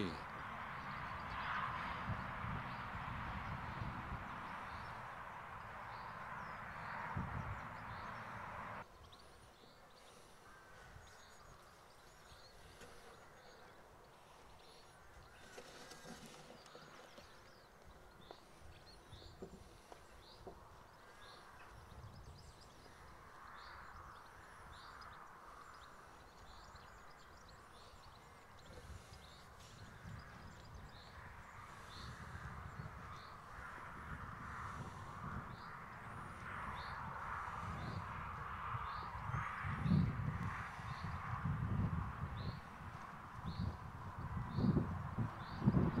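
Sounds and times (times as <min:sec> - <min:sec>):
small birds chirping: 0:02.7 - 0:41.3, 0:42.2 - 0:46.0.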